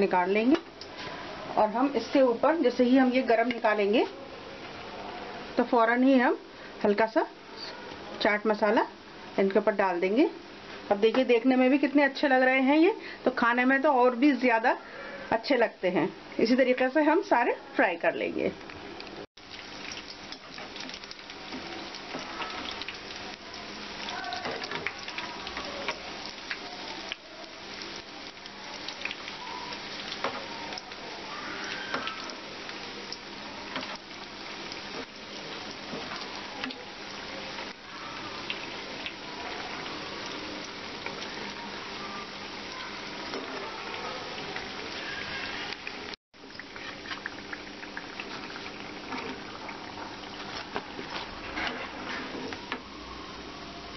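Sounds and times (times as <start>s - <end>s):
food deep-frying in hot oil: 0.0s - 53.9s.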